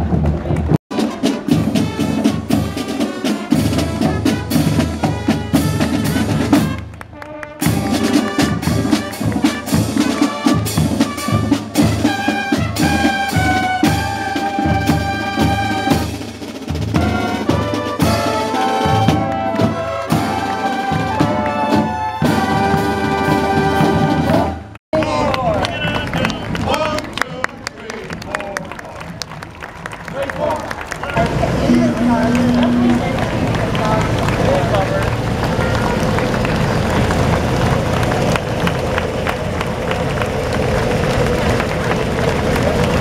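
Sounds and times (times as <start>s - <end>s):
steady drum beat: 0.0s - 6.9s, 7.6s - 24.6s, 31.1s - 43.0s
brass holding long notes: 0.9s - 16.3s, 16.9s - 26.2s, 29.6s - 43.0s.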